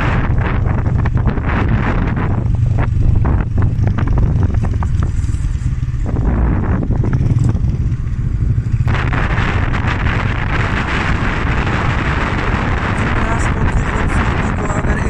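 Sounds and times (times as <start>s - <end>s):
motorcycle engine rumble: 0.0s - 15.0s
wind buffeting microphone: 0.0s - 15.0s.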